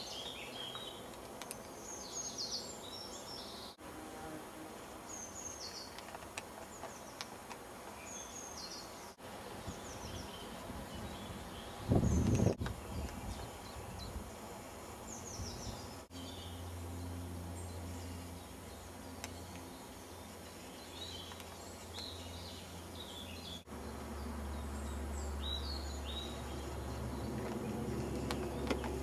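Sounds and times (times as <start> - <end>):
small birds chirping: 0.0 - 3.8, 4.8 - 29.0.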